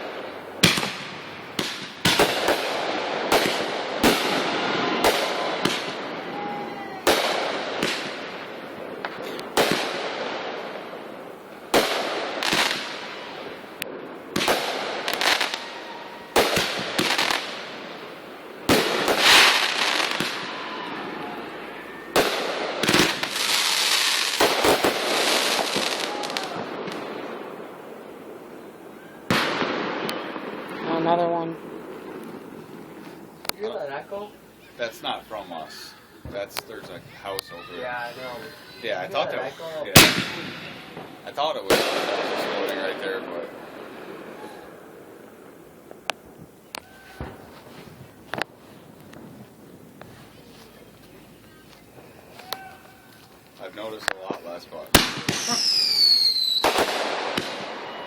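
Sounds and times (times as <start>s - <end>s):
fireworks bangs with crackling: 0.0s - 58.0s.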